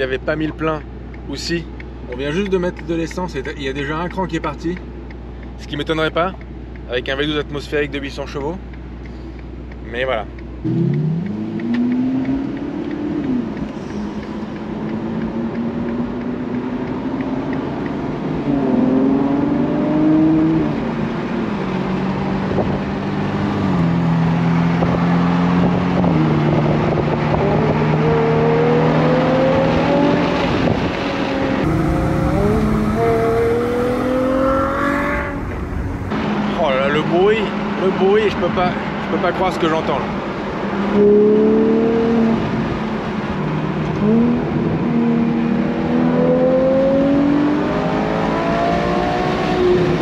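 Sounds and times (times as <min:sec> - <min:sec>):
sports car engine accelerating: 0:00.0 - 0:50.0.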